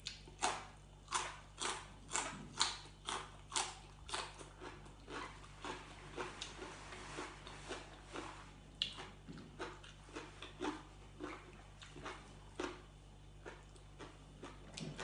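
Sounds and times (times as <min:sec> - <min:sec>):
cartilage crunching while chewing: 0:00.0 - 0:15.0
faint low hum: 0:00.0 - 0:15.0.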